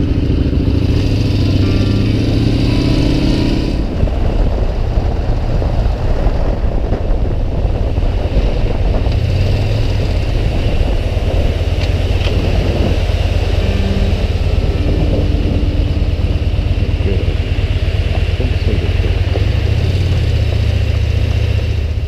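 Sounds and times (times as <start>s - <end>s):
dense rushing noise: 0.0s - 22.0s
motorcycle engine running: 0.0s - 22.0s.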